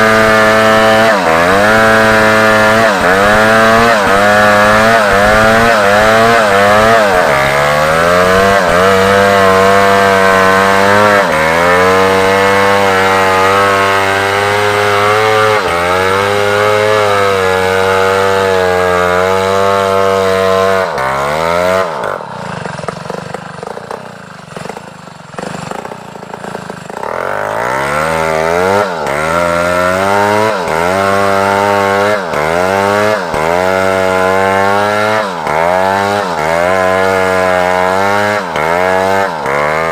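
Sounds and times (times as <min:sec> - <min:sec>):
chainsaw sawing wood: 0:00.0 - 0:39.9.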